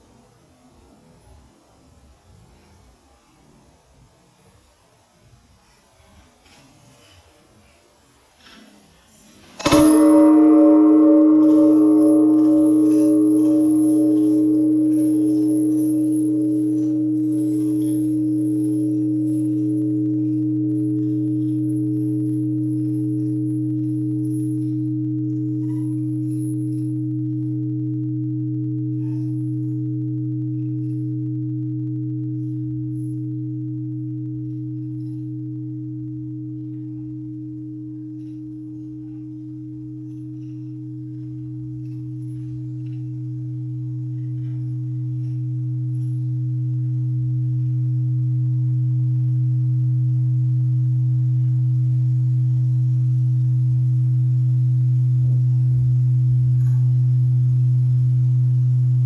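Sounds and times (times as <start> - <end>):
temple bell humming: 9.5 - 59.0.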